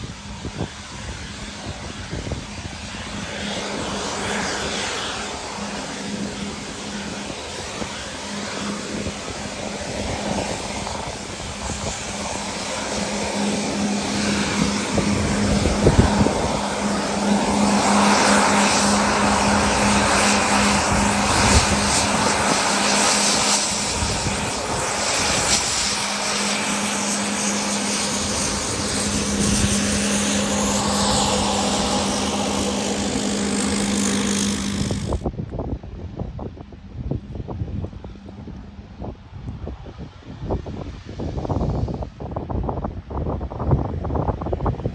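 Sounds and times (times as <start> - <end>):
turboprop engines droning: 0.0 - 42.5.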